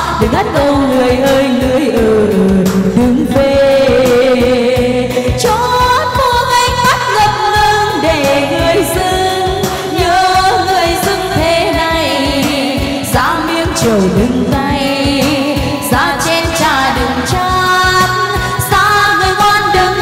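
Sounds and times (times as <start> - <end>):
backing music with steady beat: 0.0 - 20.0
women singing into microphones: 0.0 - 20.0.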